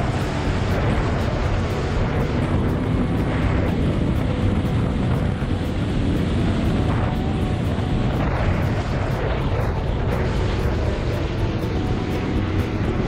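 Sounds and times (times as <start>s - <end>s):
snowmobile engine and track rumble: 0.0s - 13.0s
wind noise on microphone: 0.0s - 13.0s.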